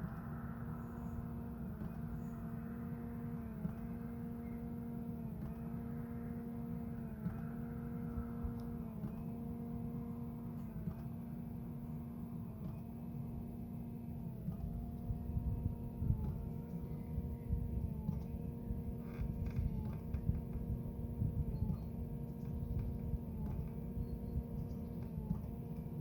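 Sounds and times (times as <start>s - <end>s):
steady electric hum: 0.0s - 26.0s.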